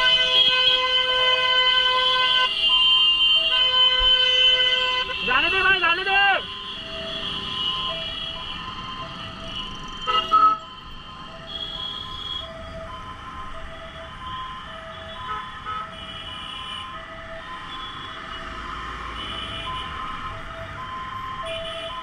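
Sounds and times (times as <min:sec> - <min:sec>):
road noise: 0:00.0 - 0:22.0
two-tone ambulance siren: 0:00.0 - 0:22.0.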